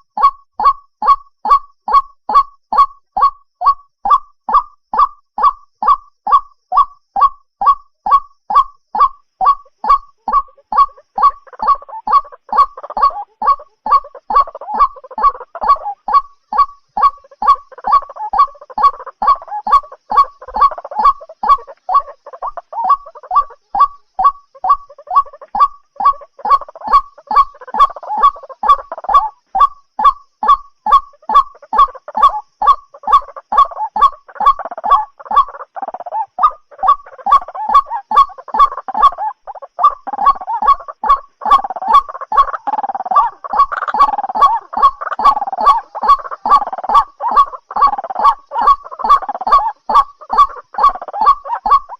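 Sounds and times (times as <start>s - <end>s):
rough chatter of bird calls: 8.9s - 51.9s.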